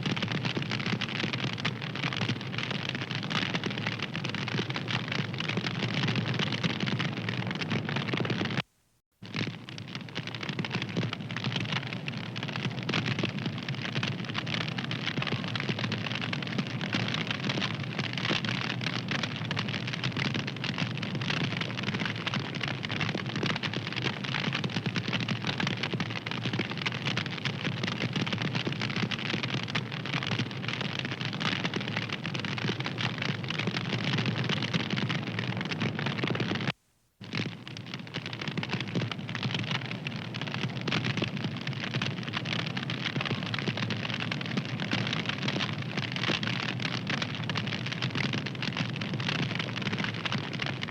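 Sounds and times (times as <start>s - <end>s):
wood fire crackling: 9.2s - 50.9s.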